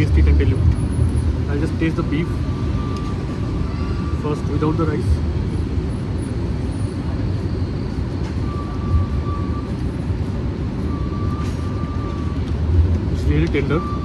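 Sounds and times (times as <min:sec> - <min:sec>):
road traffic rumbling: 0:00.0 - 0:14.0.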